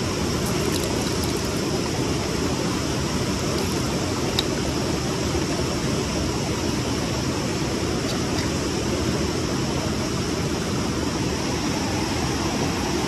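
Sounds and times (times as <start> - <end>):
fast river rushing: 0.0 - 13.0.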